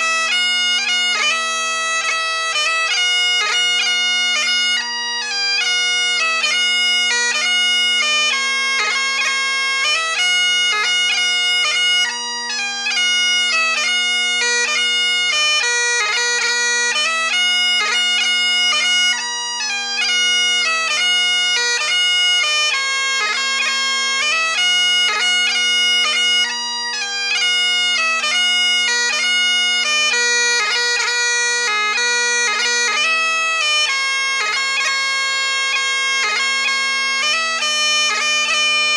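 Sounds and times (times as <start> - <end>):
bagpipe chanter melody: 0.0 - 38.9
bagpipe drones humming: 0.0 - 38.9.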